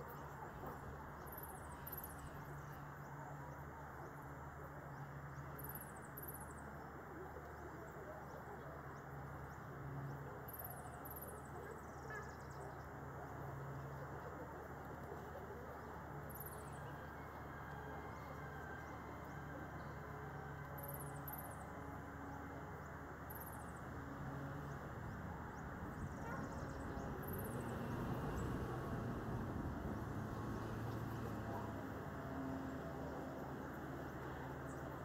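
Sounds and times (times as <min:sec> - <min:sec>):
low outdoor background noise: 0:00.0 - 0:35.0.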